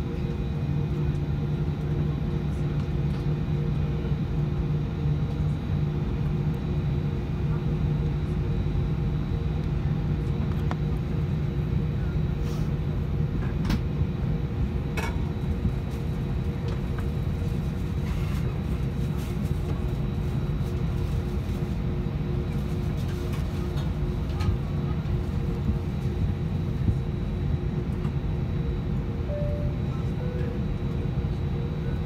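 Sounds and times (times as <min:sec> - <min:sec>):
aircraft cabin hum: 0:00.0 - 0:32.0.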